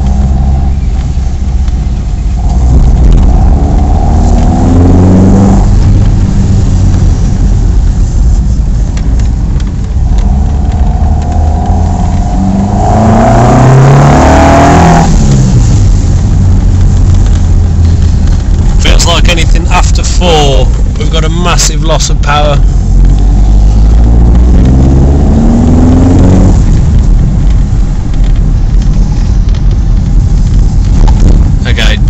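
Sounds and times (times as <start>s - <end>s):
car engine revving under load: 0.0s - 32.0s.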